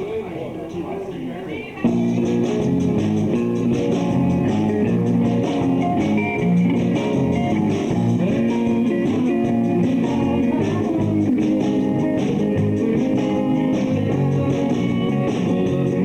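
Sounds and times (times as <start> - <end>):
drums: 1.8 - 16.0
electric guitar: 1.8 - 16.0
bass guitar: 1.9 - 16.0.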